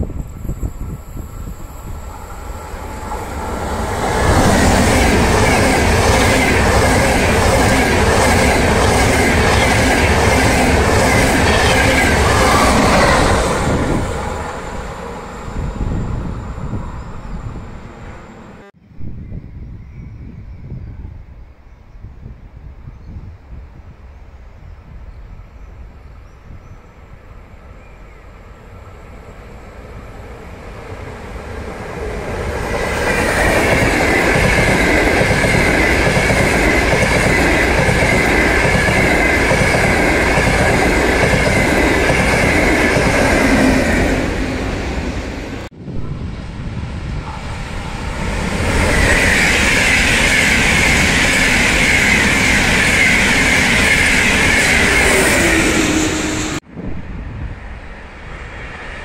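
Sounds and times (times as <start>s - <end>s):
high-speed train passing: 0.0s - 22.4s, 23.5s - 59.0s.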